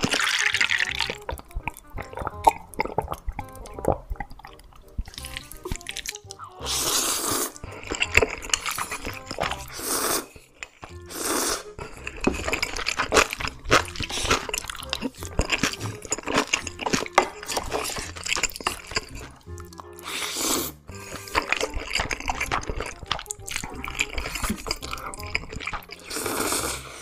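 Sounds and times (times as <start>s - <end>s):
background music: 0.0s - 27.0s
noodle slurping: 0.0s - 27.0s
wet chewing and mouth clicks: 0.0s - 27.0s.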